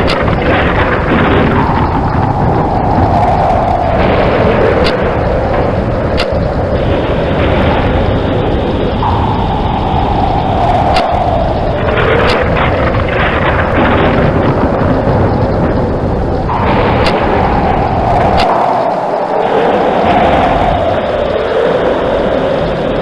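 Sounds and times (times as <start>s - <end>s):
heavy rain: 0.0s - 23.0s
rolling thunder with sharp cracks: 0.0s - 23.0s.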